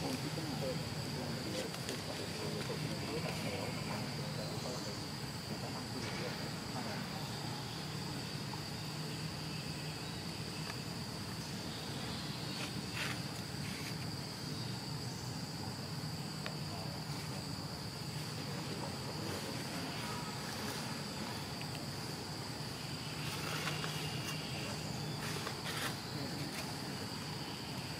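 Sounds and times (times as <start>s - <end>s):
insects trilling: 0.0s - 27.9s.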